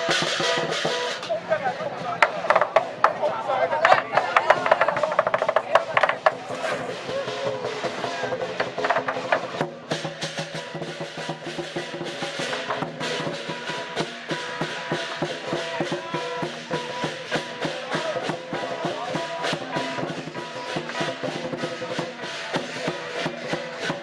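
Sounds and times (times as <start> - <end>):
drums and cymbals beating: 0.0 - 24.0.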